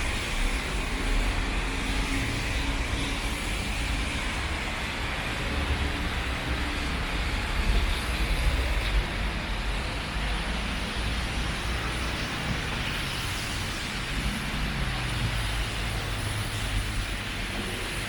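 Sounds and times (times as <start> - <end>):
road traffic noise: 0.0 - 18.0
steady rain: 0.0 - 18.0.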